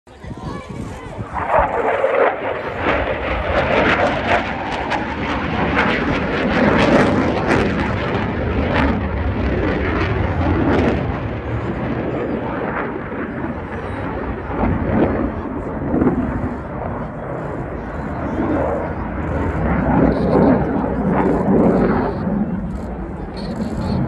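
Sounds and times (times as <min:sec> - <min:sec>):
jet roar with crackling: 0:00.5 - 0:24.0.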